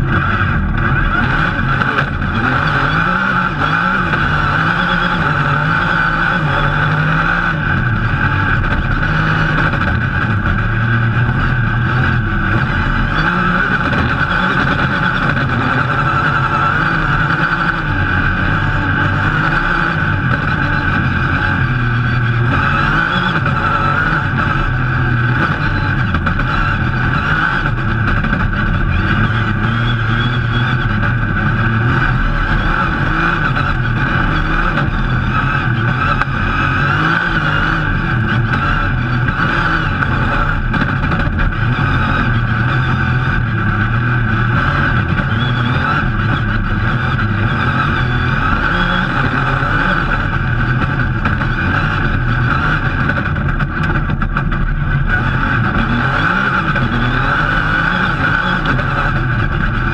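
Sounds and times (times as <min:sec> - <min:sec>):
rally car engine revving: 0:00.0 - 0:59.9
road noise: 0:00.0 - 0:59.9.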